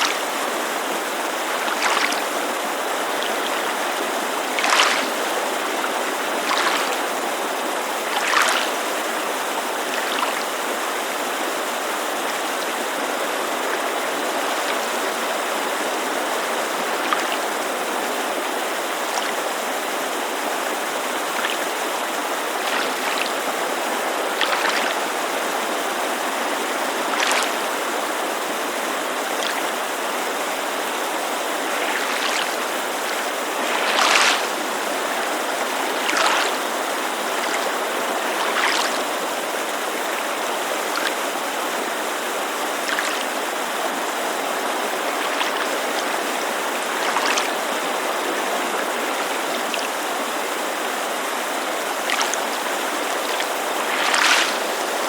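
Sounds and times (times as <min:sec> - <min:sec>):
creek rushing: 0:00.0 - 0:55.0
waves lapping against shore: 0:00.0 - 0:55.0.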